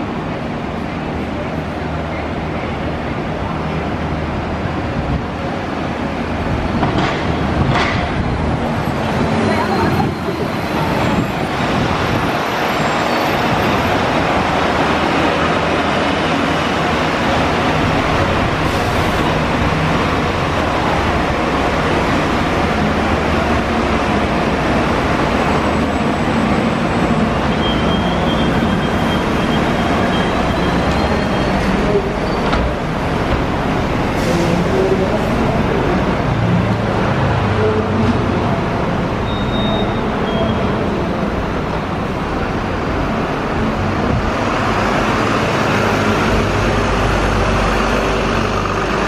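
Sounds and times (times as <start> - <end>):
bus engine rumble: 0.0 - 49.0.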